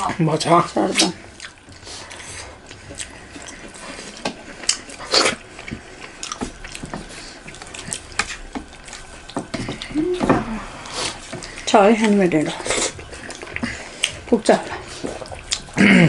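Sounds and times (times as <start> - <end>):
wet chewing and lip-smacking: 0.4 - 15.9.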